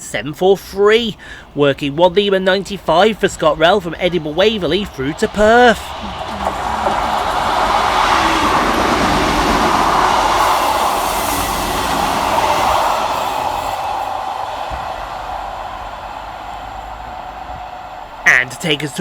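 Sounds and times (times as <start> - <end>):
diesel train passing at speed: 0.0 - 19.0.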